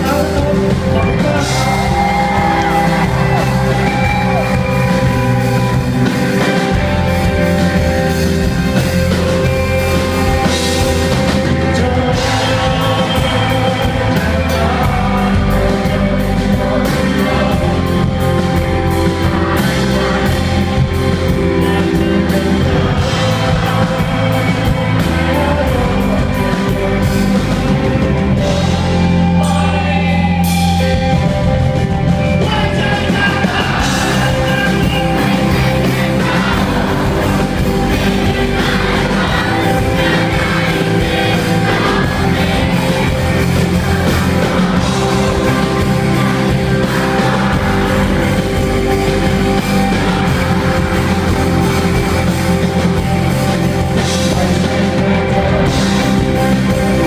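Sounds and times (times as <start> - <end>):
person singing: 0.0 - 7.8, 9.2 - 31.4, 32.0 - 57.0
crowd shouting: 0.0 - 26.4, 32.3 - 57.0
rock band playing: 0.0 - 57.0.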